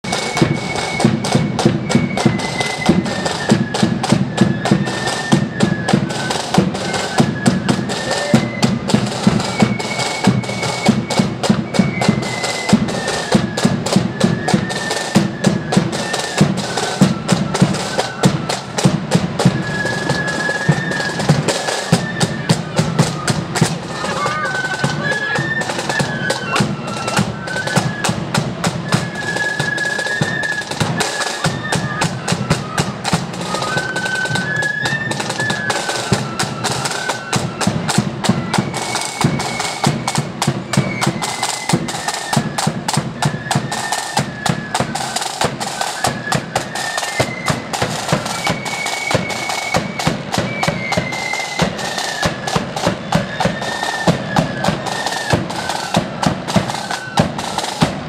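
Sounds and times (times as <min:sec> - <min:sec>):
flutes playing melody: 0:00.0 - 0:58.0
snare drum rolls: 0:00.0 - 0:58.0.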